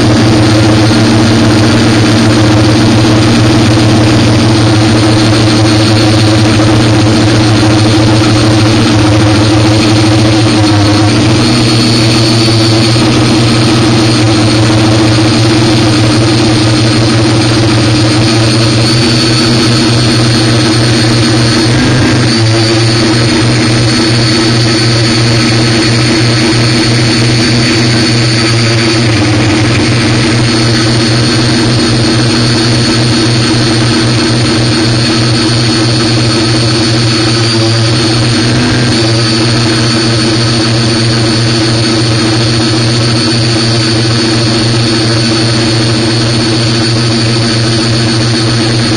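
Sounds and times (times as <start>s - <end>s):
drone motors humming and whining: 0.0s - 48.9s.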